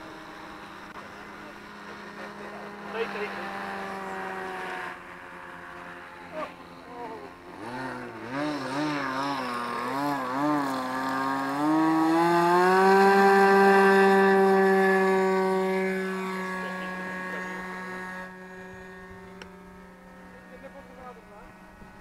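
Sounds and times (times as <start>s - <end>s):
model plane engine running: 0.0s - 22.0s.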